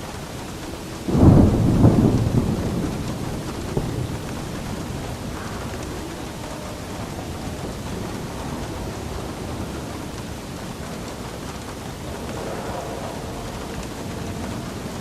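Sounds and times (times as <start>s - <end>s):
steady rain: 0.0s - 15.0s
thunder clap and rumble: 0.0s - 15.0s.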